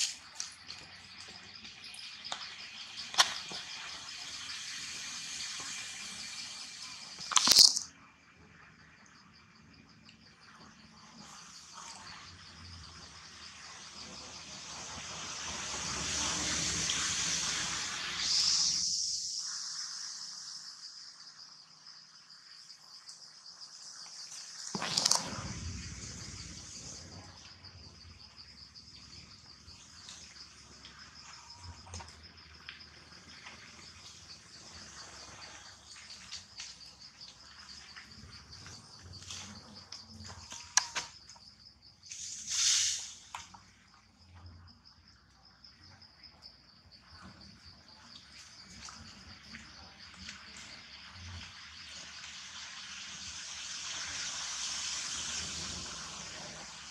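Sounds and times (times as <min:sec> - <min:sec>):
insects chirping: 0:00.0 - 0:56.9.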